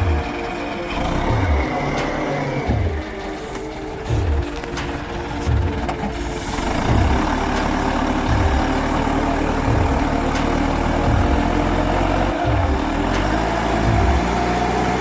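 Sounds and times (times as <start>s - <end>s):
music bass beat thumping: 0.0s - 3.2s, 4.0s - 15.0s
diesel engine working hard: 0.0s - 15.0s.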